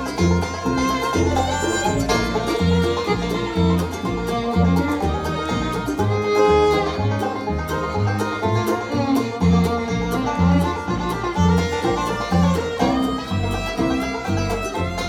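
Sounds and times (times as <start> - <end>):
bluegrass band playing: 0.0 - 15.0.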